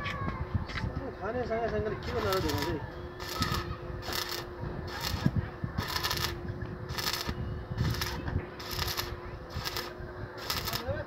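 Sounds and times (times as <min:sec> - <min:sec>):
steady hum: 0:00.5 - 0:11.0
welding arc crackling: 0:02.0 - 0:11.0.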